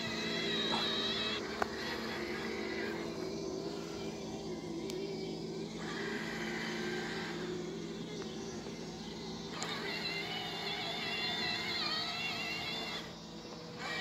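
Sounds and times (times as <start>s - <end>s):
robot mower motors humming: 0.0s - 14.0s.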